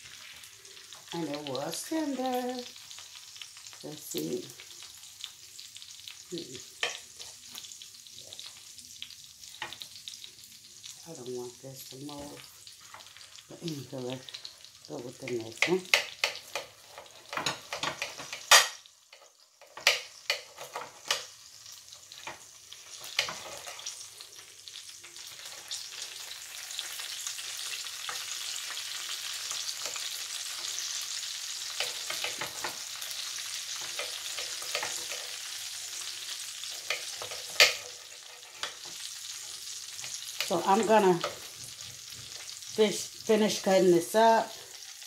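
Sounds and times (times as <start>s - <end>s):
sizzling hiss: 0.0s - 45.0s.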